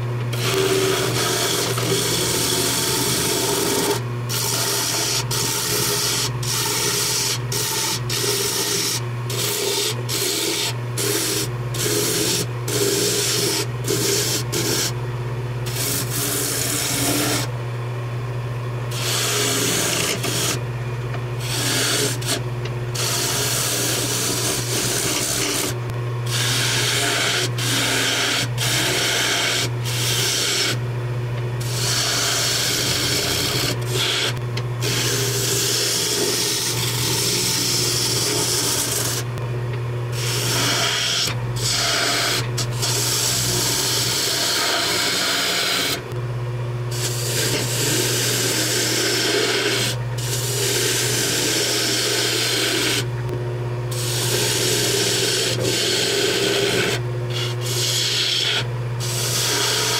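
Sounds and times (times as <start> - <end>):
wood lathe motor hum: 0.0 - 15.0, 15.6 - 17.6, 18.9 - 30.8, 31.6 - 39.4, 40.1 - 46.2, 46.9 - 53.3, 53.9 - 59.9
chisel rasping on spinning wood: 0.3 - 15.0, 15.7 - 17.5, 18.9 - 20.6, 21.4 - 30.8, 31.6 - 39.3, 40.2 - 46.0, 46.9 - 53.1, 53.9 - 59.9.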